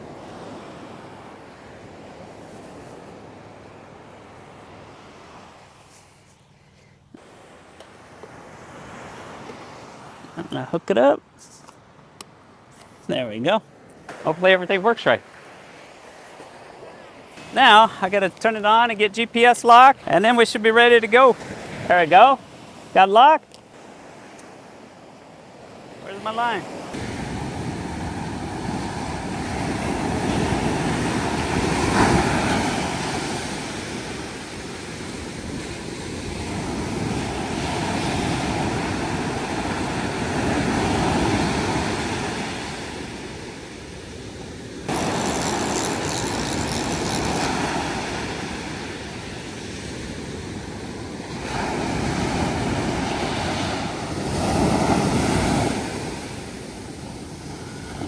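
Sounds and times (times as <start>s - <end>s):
ocean waves breaking on beach: 0.0s - 6.3s, 7.2s - 58.0s.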